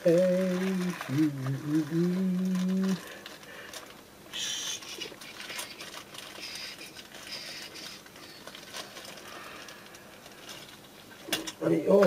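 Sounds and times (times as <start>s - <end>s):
small parts clicking and rattling: 0.0s - 4.0s, 4.8s - 11.6s
plastic bag rustling and crinkling: 0.0s - 11.5s.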